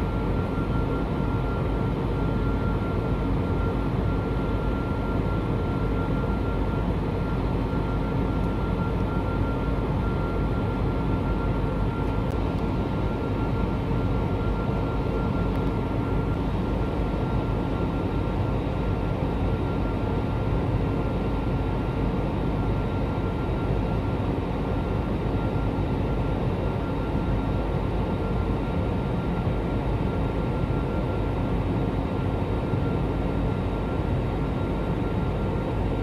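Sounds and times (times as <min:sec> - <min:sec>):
jet engines and rushing air roaring: 0:00.0 - 0:36.0
thin steady whine: 0:00.0 - 0:36.0.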